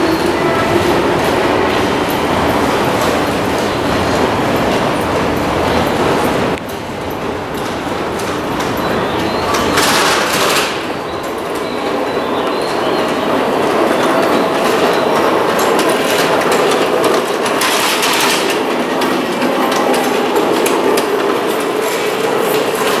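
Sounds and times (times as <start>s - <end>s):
train rumbling on rails: 0.0s - 23.0s
wheels clicking over track: 0.0s - 23.0s.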